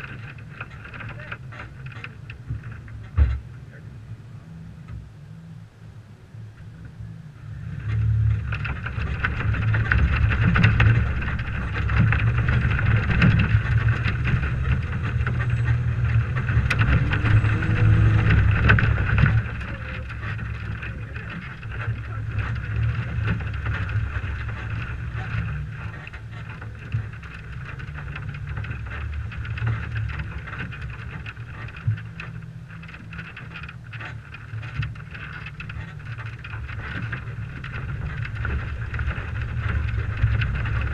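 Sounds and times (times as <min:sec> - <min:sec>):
car engine under load: 0:00.0 - 0:40.9
wind buffeting microphone: 0:00.0 - 0:40.9.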